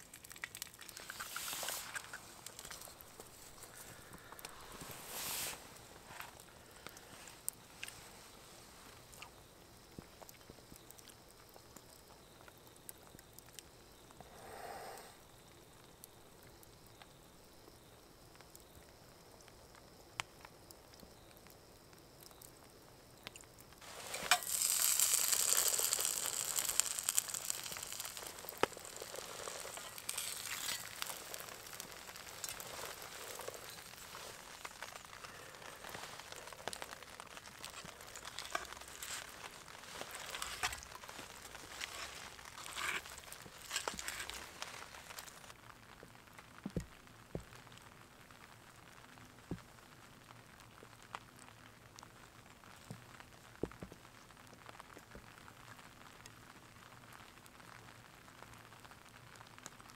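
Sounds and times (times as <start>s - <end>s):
campfire crackling: 0.0s - 59.9s
eggs sizzling in a pan: 0.0s - 59.9s.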